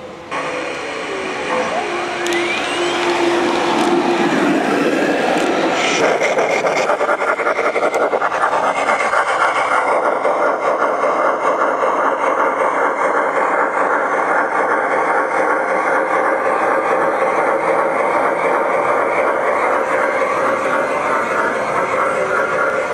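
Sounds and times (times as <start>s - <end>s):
model train rattling on rails: 0.0s - 22.9s.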